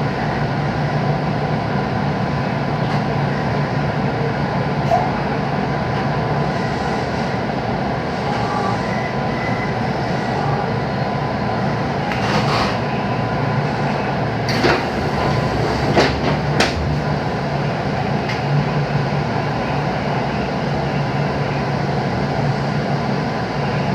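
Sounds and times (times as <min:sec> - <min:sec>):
train rumbling: 0:00.0 - 0:23.9.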